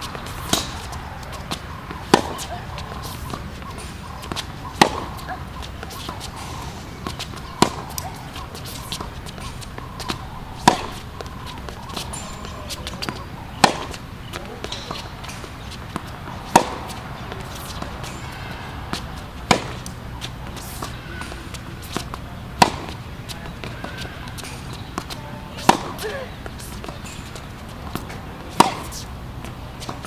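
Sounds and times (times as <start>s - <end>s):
tennis racket hitting ball: 0.0s - 30.0s.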